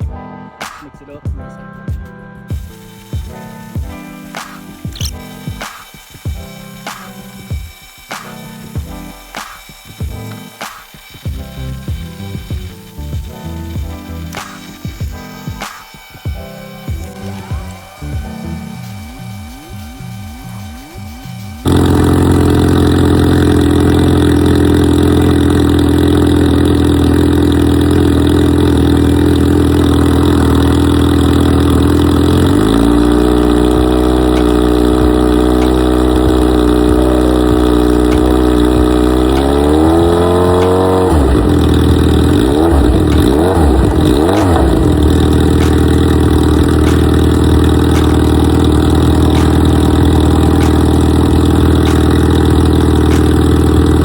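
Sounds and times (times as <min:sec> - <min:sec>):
motorcycle engine idling and revving: 0:03.2 - 0:05.7, 0:06.3 - 0:10.5, 0:11.2 - 0:15.6, 0:16.3 - 0:54.0.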